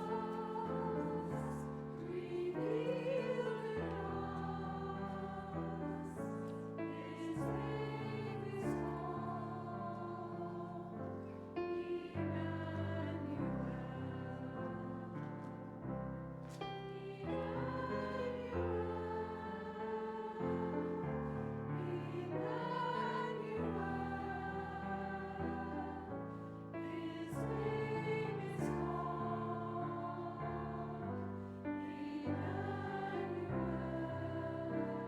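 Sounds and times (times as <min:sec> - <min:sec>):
choir singing: 0:00.0 - 0:15.4, 0:16.7 - 0:35.0.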